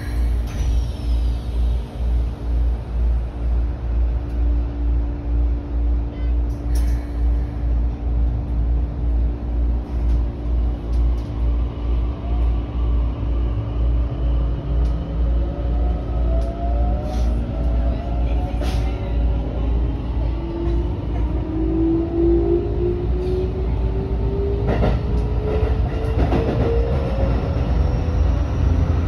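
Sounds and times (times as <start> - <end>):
train low throb and hum: 0.0 - 29.0.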